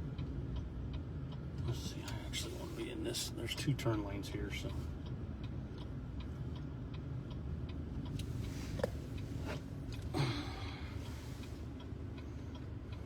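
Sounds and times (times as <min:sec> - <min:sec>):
low engine and road rumble: 0:00.0 - 0:13.0.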